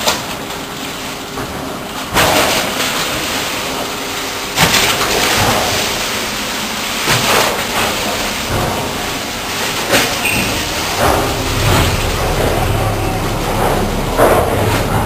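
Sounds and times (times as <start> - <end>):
waves breaking against ship: 0.0 - 15.0
wind and water rushing: 2.2 - 15.0.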